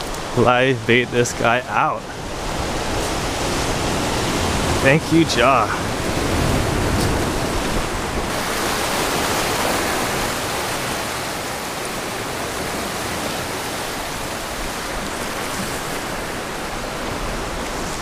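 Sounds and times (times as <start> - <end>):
surf breaking on rocks: 0.0 - 18.0.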